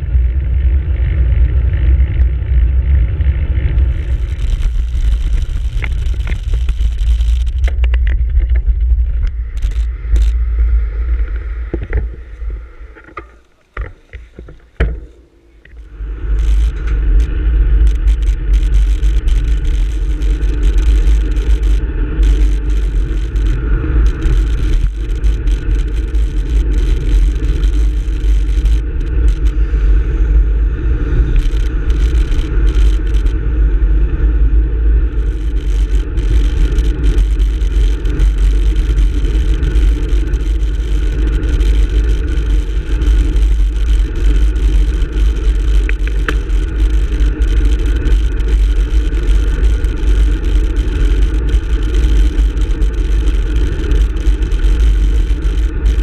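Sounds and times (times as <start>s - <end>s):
wind buffeting microphone: 0.0s - 13.2s, 13.8s - 56.0s
tyre and road noise: 0.0s - 56.0s
clicks and rattles from vibration: 3.6s - 10.5s, 11.1s - 29.6s, 31.2s - 33.4s, 35.0s - 56.0s.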